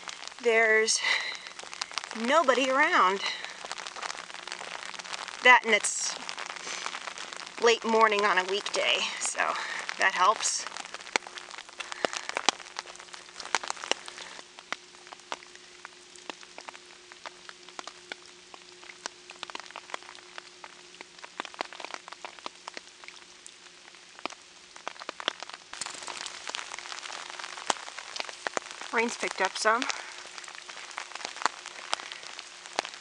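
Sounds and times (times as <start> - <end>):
light rain falling: 0.0 - 33.0
raindrops ticking near microphone: 0.0 - 33.0.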